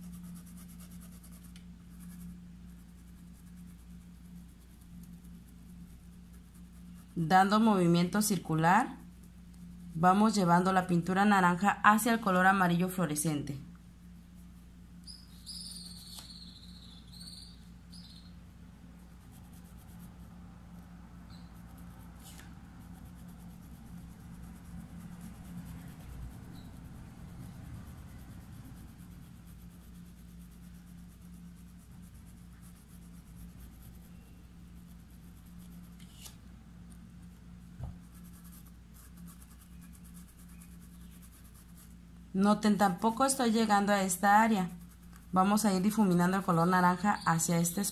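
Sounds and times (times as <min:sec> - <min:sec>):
paintbrush rubbing on fabric: 0:00.0 - 0:10.6, 0:14.2 - 0:17.4, 0:18.9 - 0:20.3, 0:21.3 - 0:36.4, 0:37.2 - 0:42.0, 0:42.8 - 0:47.9.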